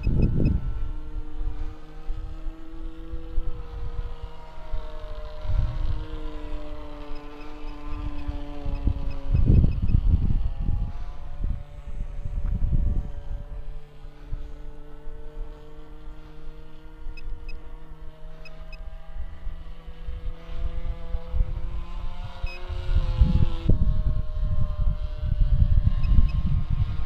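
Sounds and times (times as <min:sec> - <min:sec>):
model airplane engine droning: 0:00.0 - 0:27.0
wind buffeting microphone: 0:00.0 - 0:27.0.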